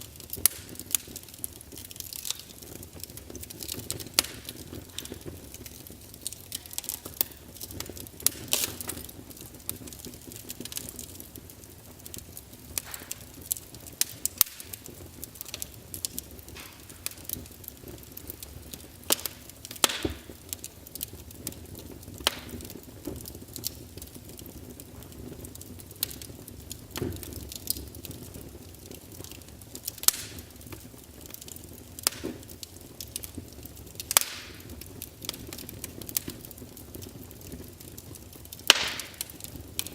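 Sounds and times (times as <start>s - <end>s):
hiss of flames: 0.0s - 39.9s
logs crackling and popping: 0.0s - 39.9s.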